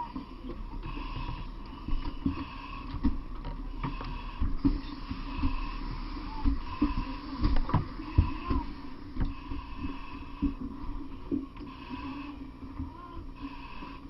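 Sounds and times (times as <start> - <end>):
steady mechanical drone: 0.0 - 14.0.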